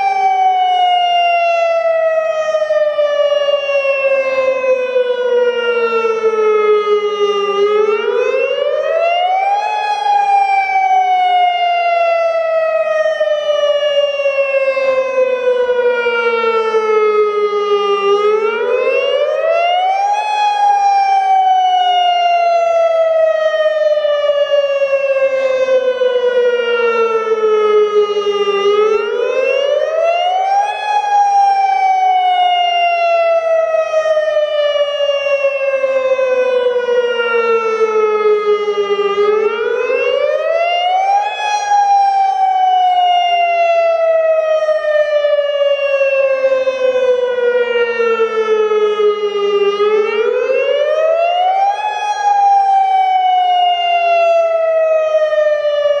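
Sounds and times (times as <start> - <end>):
warning siren wailing: 0.0 - 56.0.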